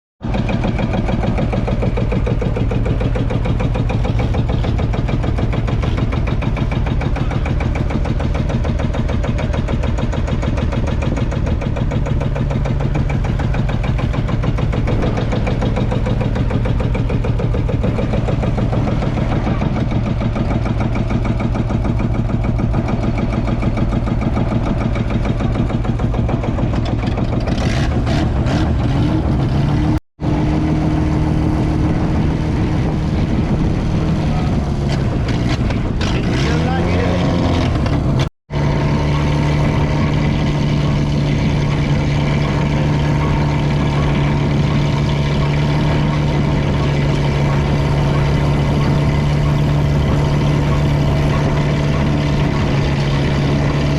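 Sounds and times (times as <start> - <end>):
tractor diesel engine running: 0.2 - 53.9.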